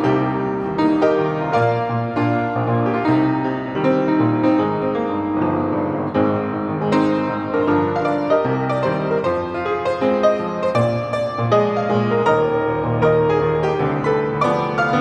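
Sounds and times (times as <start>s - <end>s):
solo piano pop song: 0.0s - 15.0s.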